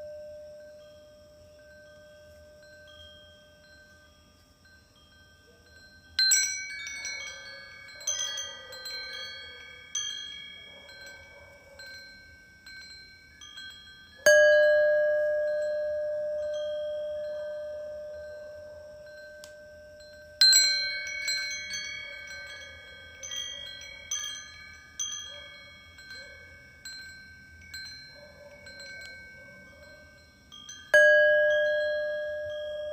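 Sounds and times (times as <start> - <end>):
wind chimes tinkling: 0.0 - 32.9.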